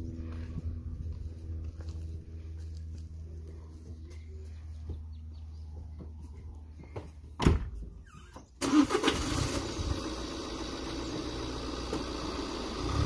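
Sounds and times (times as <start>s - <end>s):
van engine running: 0.0s - 7.0s, 8.6s - 13.0s.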